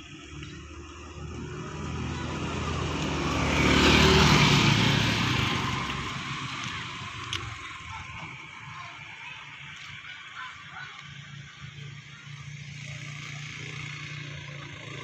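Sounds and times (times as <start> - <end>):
motor scooter passing: 0.0 - 15.0.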